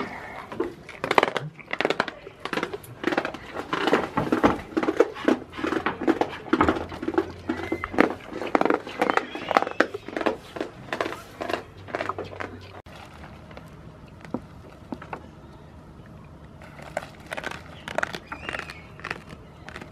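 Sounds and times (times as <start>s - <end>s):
goats crunching treats: 0.0s - 15.4s, 16.0s - 19.9s.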